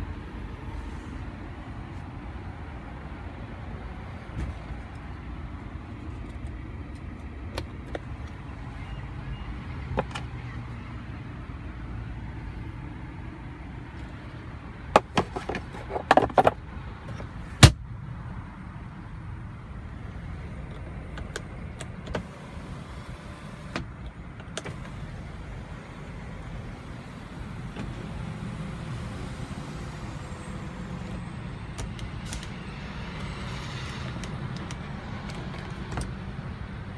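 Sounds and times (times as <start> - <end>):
low hum inside car cabin: 0.0 - 36.9.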